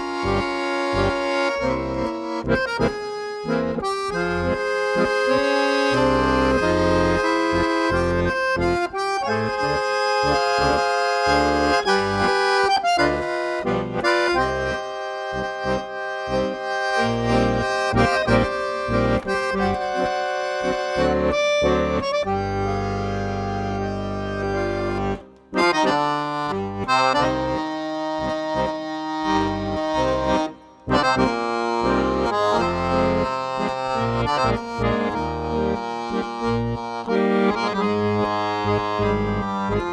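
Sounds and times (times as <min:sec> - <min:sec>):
instrumental music with held chords: 0:00.0 - 0:39.9.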